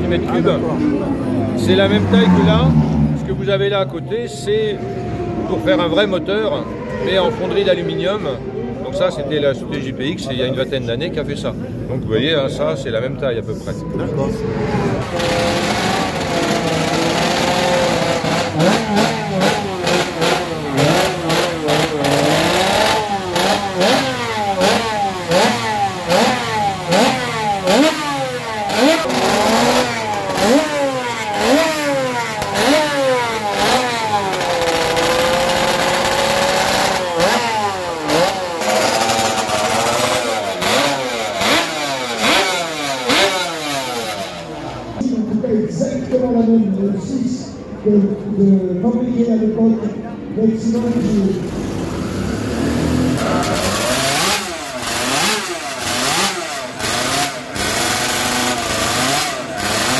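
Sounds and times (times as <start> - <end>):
motorcycle engine revving: 0.0 - 8.8, 14.1 - 45.1, 50.6 - 59.9.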